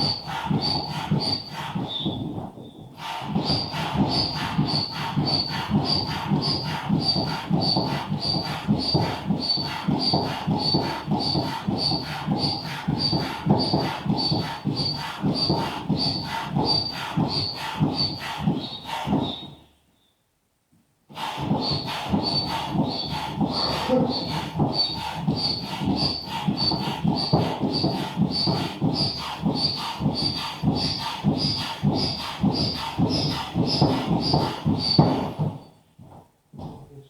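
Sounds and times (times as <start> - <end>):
air pump strokes puffing: 0.0 - 19.7, 21.1 - 36.2.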